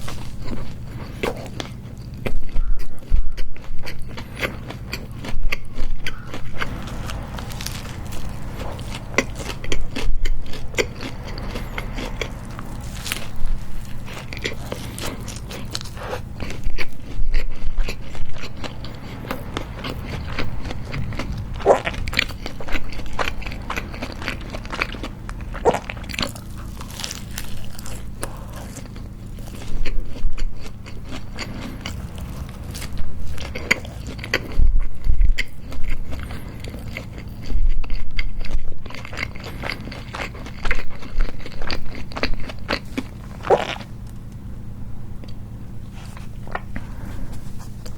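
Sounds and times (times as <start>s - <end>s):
low hum: 0.0s - 37.8s, 40.9s - 47.9s
crunching bites: 0.0s - 44.4s
biting and chewing food: 0.0s - 44.5s, 45.2s - 47.9s.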